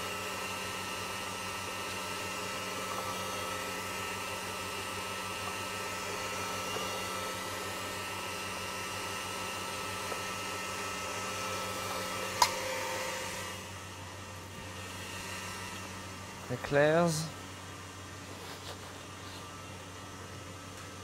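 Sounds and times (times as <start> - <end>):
kitchen machinery humming: 0.0 - 21.0.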